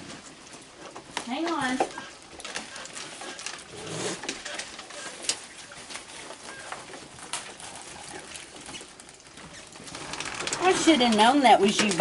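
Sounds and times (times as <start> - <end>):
raccoons chewing and clicking: 0.0 - 12.0.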